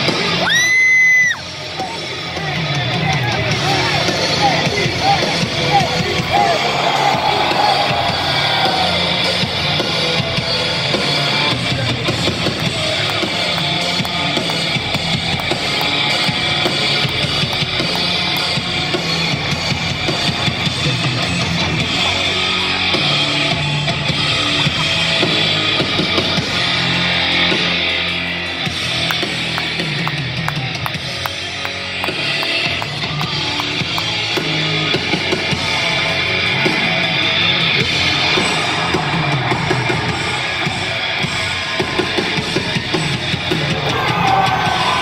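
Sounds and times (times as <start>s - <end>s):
rock music over sound system: 0.0s - 45.0s.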